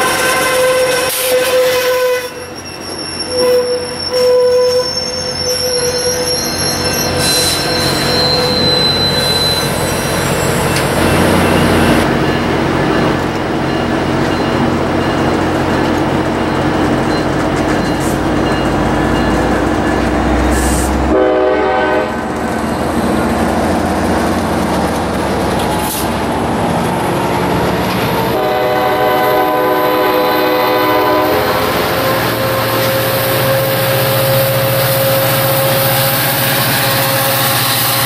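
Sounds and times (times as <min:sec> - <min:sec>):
train wheel squeal: 0:00.0 - 0:21.0, 0:27.8 - 0:38.0
wheels rumbling on track: 0:04.9 - 0:38.0.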